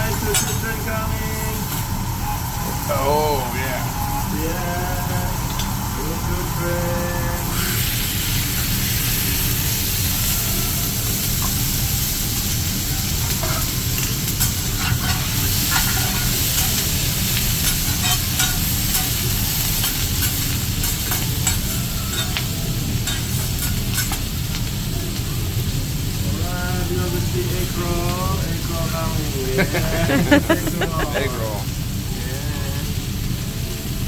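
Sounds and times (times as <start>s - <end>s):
food sizzling on a griddle: 0.0s - 34.0s.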